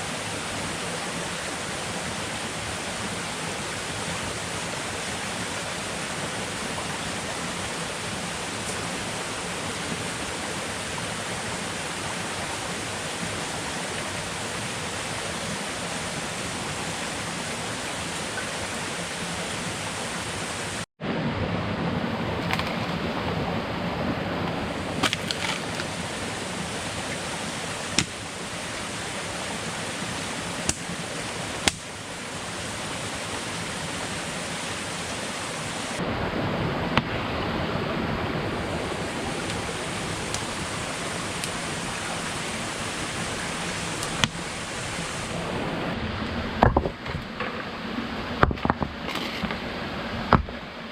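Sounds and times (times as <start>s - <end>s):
water rushing: 0.0s - 50.9s.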